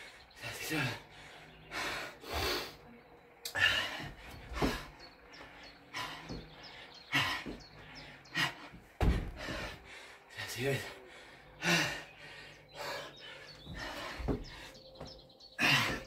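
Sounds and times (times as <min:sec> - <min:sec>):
man breathing hard: 0:00.0 - 0:02.9, 0:03.5 - 0:16.0.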